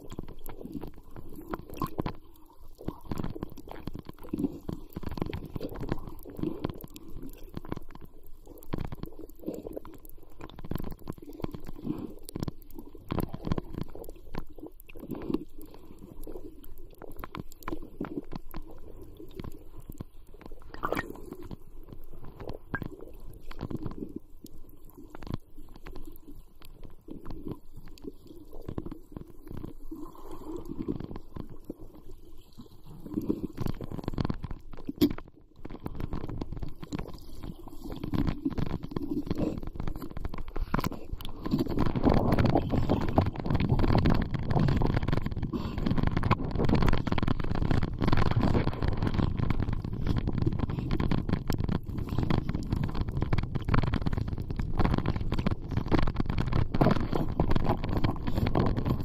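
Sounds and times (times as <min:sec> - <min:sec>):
underwater rumble of water: 0:00.0 - 0:59.0.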